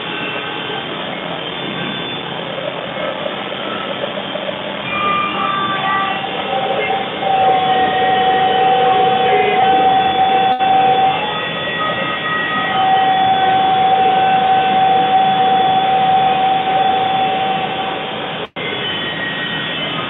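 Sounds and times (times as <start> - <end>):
high whine: 0.0 - 20.0
tractor engine and snowblower drone: 0.0 - 20.0.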